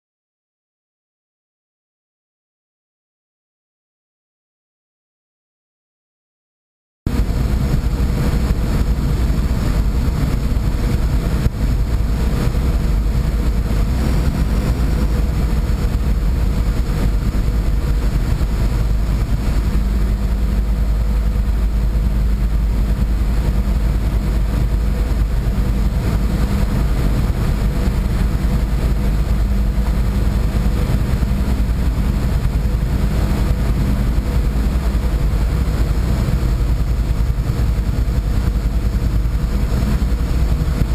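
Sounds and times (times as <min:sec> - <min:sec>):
boat engine droning: 0:07.1 - 0:40.9.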